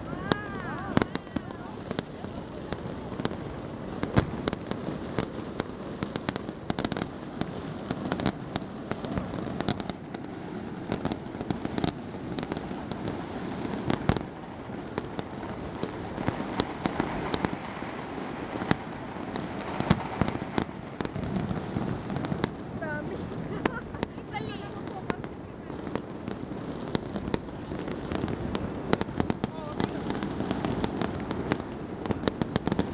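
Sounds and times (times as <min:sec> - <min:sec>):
distant fireworks rumble: 0:00.0 - 0:32.9
fireworks cracks and pops: 0:00.0 - 0:32.9.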